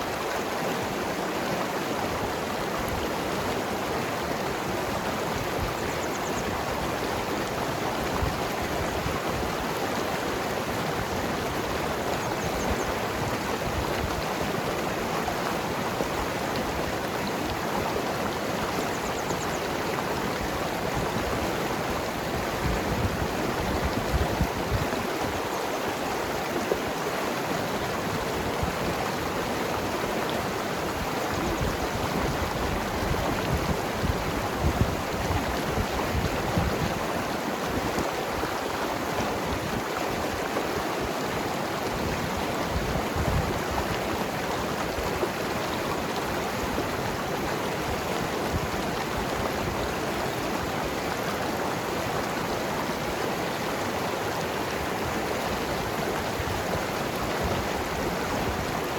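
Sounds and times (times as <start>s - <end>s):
river flowing over rocks: 0.0s - 58.9s.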